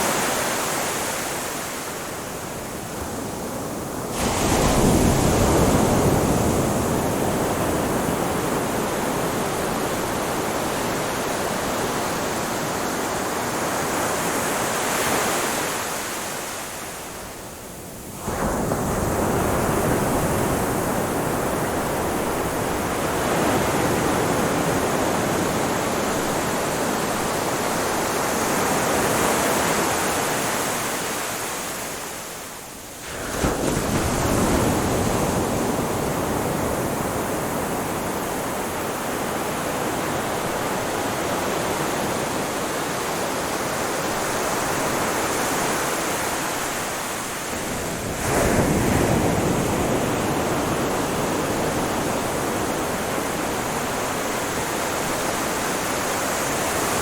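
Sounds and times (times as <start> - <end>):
ocean waves washing onto beach: 0.0 - 57.0.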